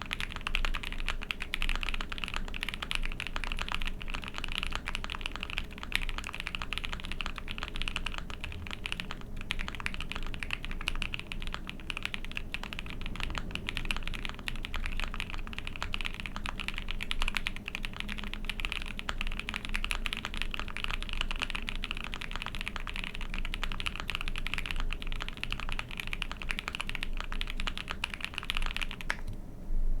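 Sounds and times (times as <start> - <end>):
fast mechanical keyboard typing: 0.0 - 29.3.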